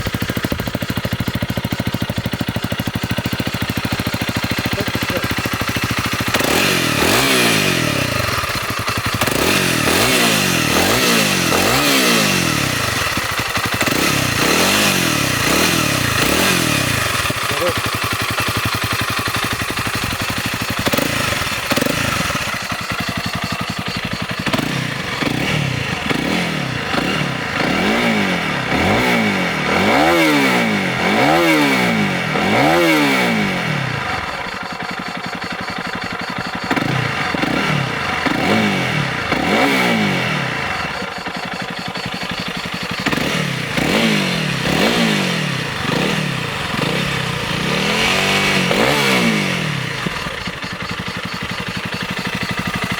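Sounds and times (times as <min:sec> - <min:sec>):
motorcycle engine idling: 0:00.0 - 0:52.9
motorcycle throttle blips: 0:00.0 - 0:52.9.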